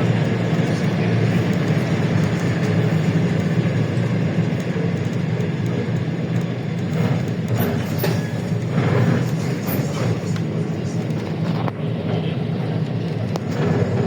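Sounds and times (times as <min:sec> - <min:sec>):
bus engine drone: 0:00.0 - 0:14.0
road and body rumble: 0:00.0 - 0:14.0.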